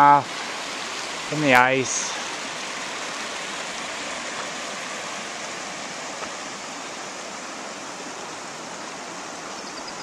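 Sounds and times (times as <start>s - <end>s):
stream running over rocks: 0.0s - 10.0s.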